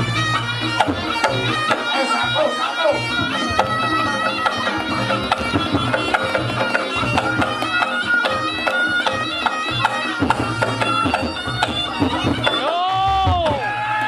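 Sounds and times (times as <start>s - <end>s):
drum strokes: 0.0s - 13.8s
shrill shawm melody: 0.0s - 14.0s.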